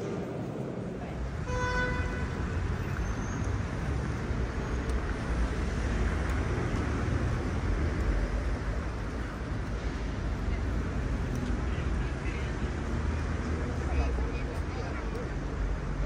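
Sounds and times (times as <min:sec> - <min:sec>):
cars rumbling on a wet street: 0:00.0 - 0:16.0.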